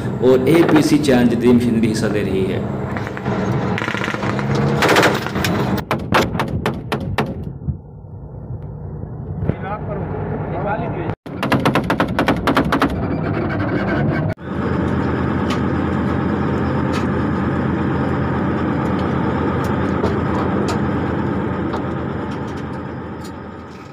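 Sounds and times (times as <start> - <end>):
vehicle engine and road noise: 0.0 - 23.9.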